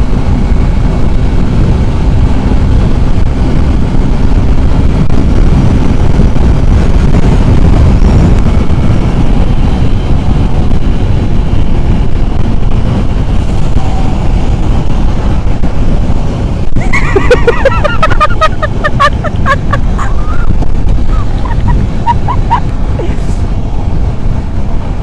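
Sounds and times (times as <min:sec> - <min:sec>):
motorcycle engine running: 0:00.0 - 0:25.0
wind blasting microphone: 0:00.0 - 0:25.0.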